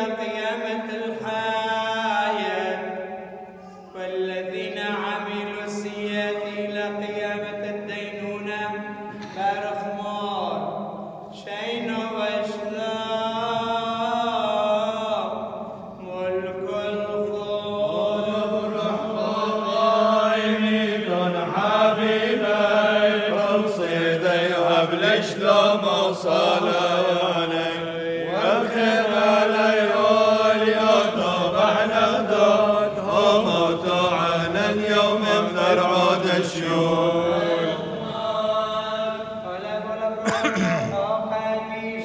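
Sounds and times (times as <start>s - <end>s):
clergy chanting a hymn: 0.0s - 42.0s.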